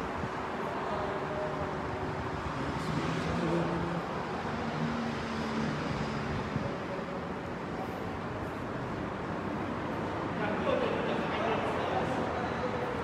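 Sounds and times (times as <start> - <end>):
indoor showroom background rush: 0.0 - 13.0.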